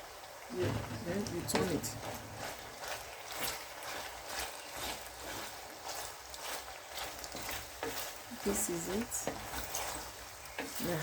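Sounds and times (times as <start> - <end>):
light frying hiss: 0.0 - 11.0
spoon scraping a pot: 1.4 - 11.0.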